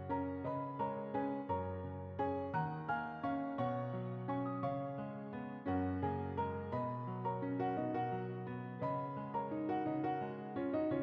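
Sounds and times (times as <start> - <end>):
soft piano melody: 0.0 - 11.0.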